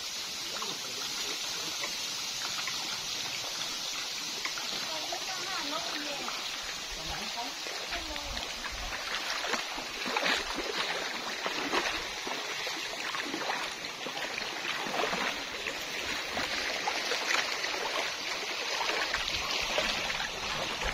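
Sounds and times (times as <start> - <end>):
river water running: 0.0 - 20.9
splashes from wading: 0.0 - 20.9.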